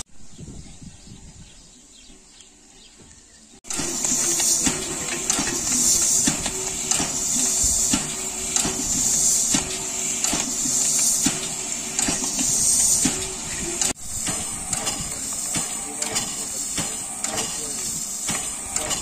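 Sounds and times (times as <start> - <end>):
steam locomotive hissing: 3.7 - 19.0.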